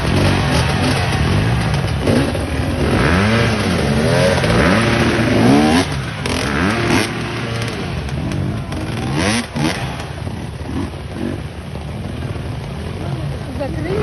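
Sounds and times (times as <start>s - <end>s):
racing engine revving: 0.0s - 12.6s.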